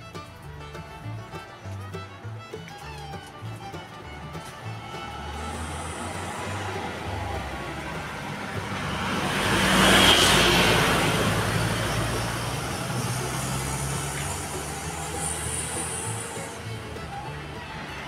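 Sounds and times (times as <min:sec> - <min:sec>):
motor vehicle passing by: 0:00.5 - 0:18.0.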